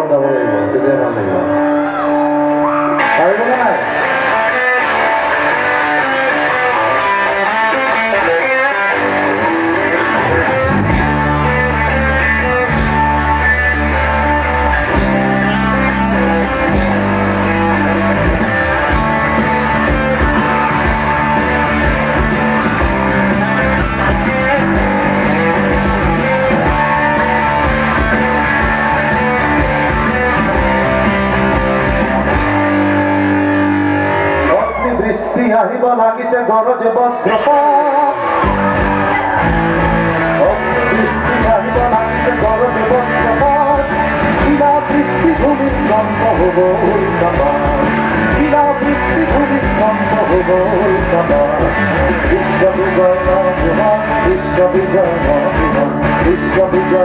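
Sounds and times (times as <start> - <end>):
bass guitar: 0.0 - 57.0
electric guitar: 0.0 - 57.0
keyboard: 0.0 - 57.0
drums: 4.6 - 35.8, 38.2 - 57.0.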